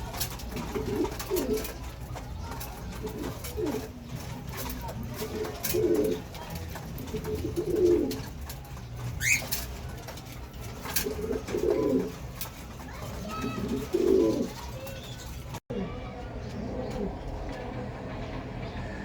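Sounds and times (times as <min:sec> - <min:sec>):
pigeons cooing: 0:00.0 - 0:17.7.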